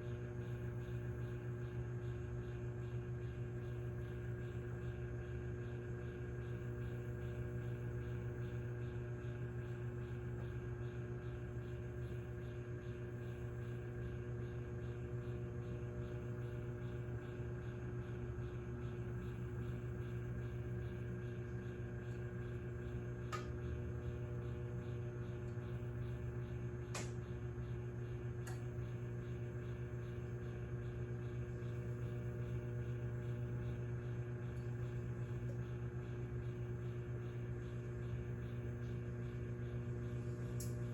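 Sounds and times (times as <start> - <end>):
microwave oven humming: 0.0 - 40.9.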